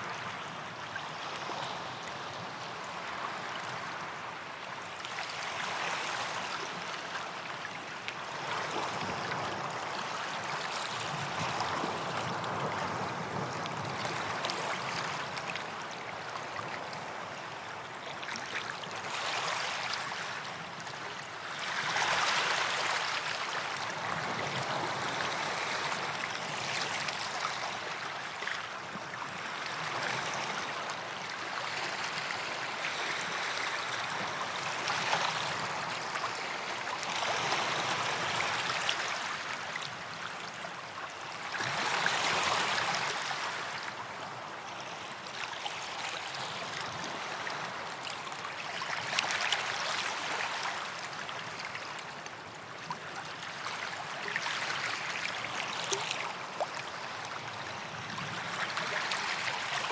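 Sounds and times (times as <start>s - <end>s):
small waves breaking on sand: 0.0s - 59.9s.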